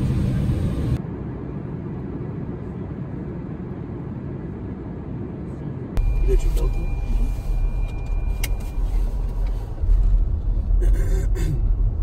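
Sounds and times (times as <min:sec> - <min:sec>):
airliner cabin low rumble: 0:00.0 - 0:12.0.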